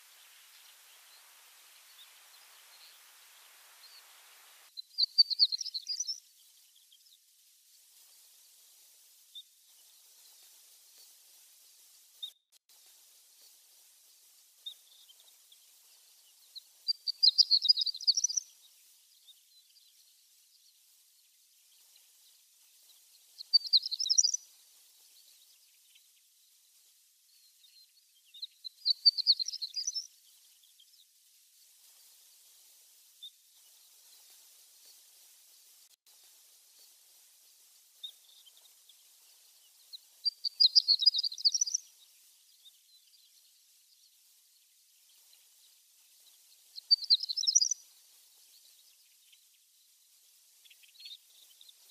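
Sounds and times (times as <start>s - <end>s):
rapid high bird twittering: 0.0s - 8.6s, 13.4s - 32.3s, 37.7s - 51.9s
bird chirping: 0.0s - 11.4s, 13.4s - 32.3s, 36.7s - 51.9s.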